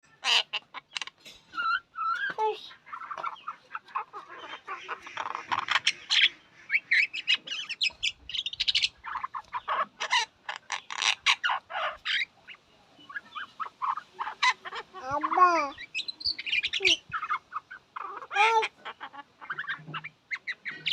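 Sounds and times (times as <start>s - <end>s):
myna chattering: 0.1s - 12.3s, 13.1s - 20.9s.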